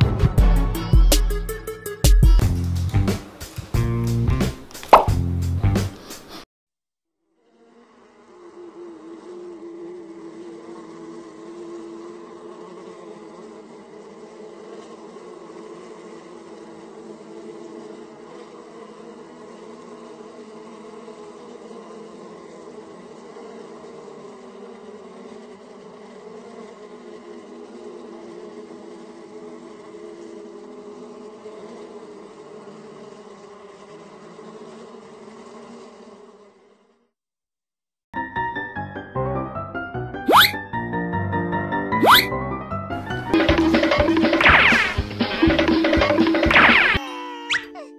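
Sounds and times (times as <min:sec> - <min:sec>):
insects buzzing: 0:00.0 - 0:06.5, 0:07.2 - 0:37.2, 0:40.3 - 0:40.7, 0:41.9 - 0:47.9.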